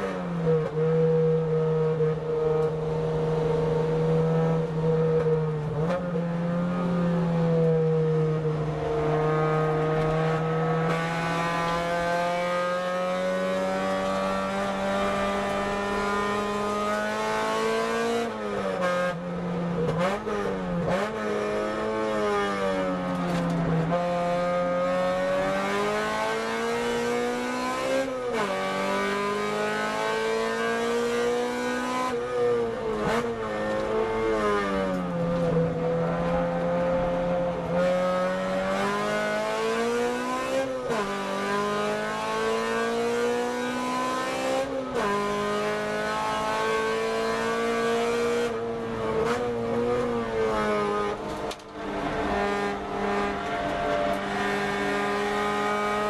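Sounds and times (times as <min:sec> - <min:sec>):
race car engine revving: 0:08.1 - 0:56.0.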